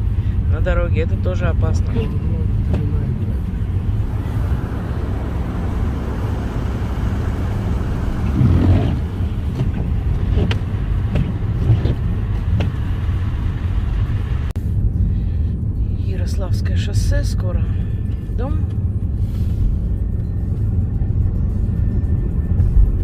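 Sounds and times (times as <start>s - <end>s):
car road noise rumble: 0.0s - 23.0s.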